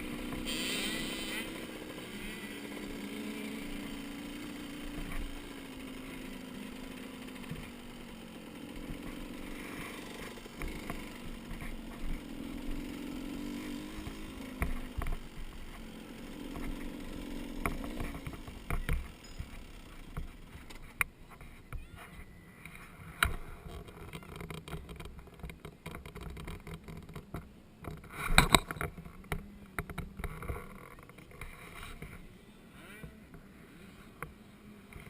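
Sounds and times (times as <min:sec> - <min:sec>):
distant dirt bike engine: 0:00.0 - 0:35.0.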